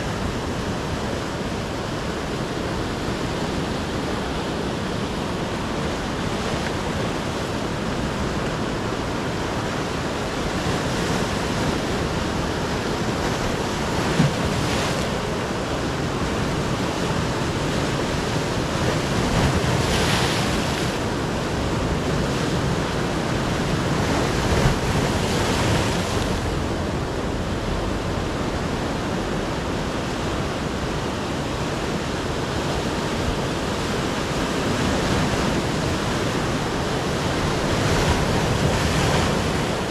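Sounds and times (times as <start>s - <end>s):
sea surf breaking: 0.0s - 39.9s.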